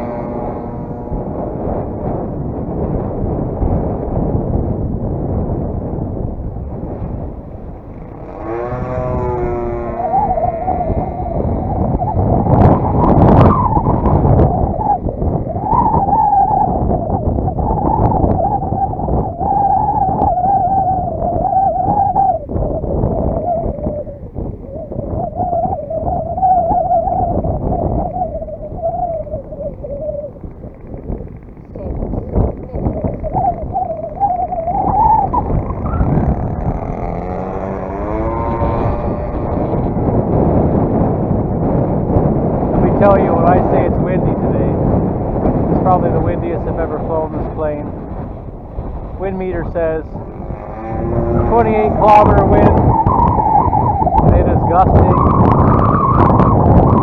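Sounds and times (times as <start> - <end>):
model plane engine droning: 0.0 - 56.2
wind rumble on microphone: 0.0 - 57.0.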